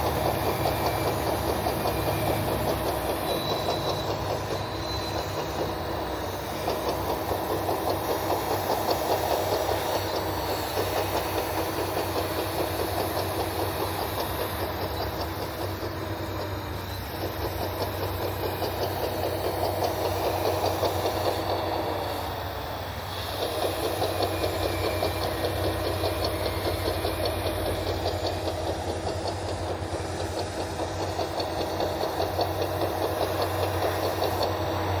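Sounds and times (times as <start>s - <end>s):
model bulldozer mechanical drone: 0.0s - 35.0s.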